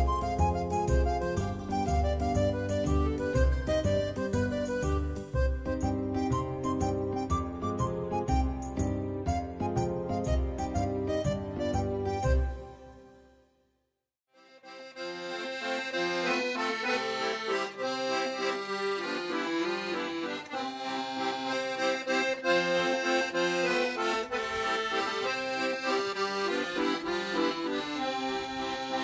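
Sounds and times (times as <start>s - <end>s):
piano accordion folk tune: 0.0s - 13.4s, 14.4s - 29.0s.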